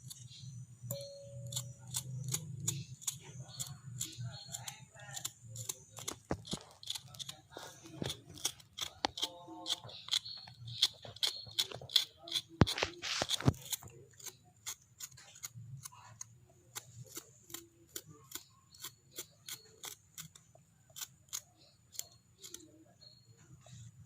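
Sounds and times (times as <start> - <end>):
root skin being scraped: 1.5 - 23.2.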